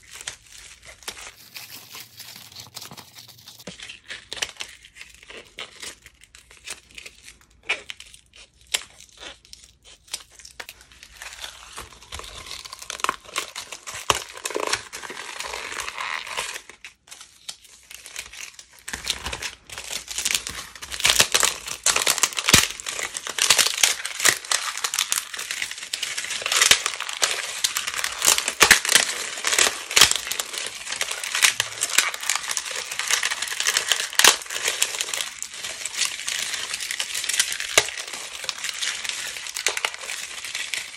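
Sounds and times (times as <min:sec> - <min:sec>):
dried slime crinkling and crackling: 0:00.0 - 0:40.9.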